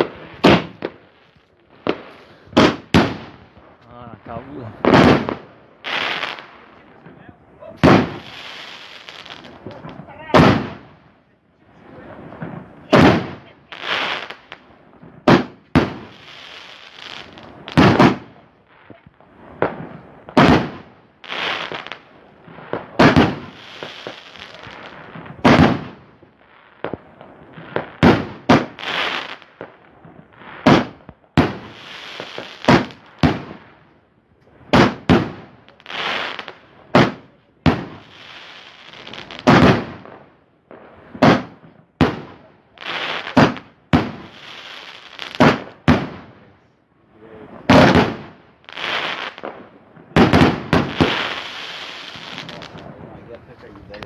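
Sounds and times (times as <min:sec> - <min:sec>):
fireworks bangs with hiss: 0:00.0 - 0:54.0.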